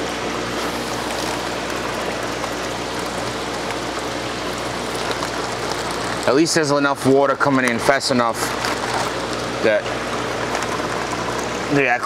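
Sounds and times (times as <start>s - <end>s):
water running from pipe into box: 0.0s - 12.0s.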